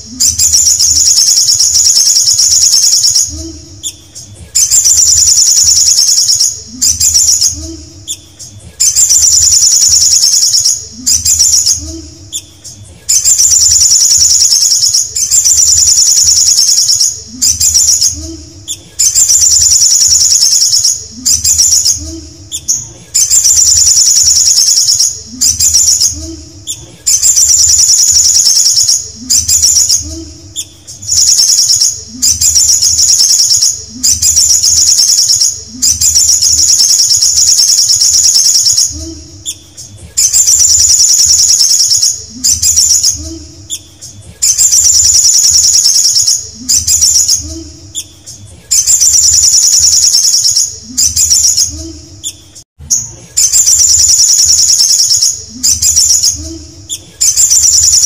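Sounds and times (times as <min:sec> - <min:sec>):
sunbird trilling song: 0:00.0 - 0:58.0.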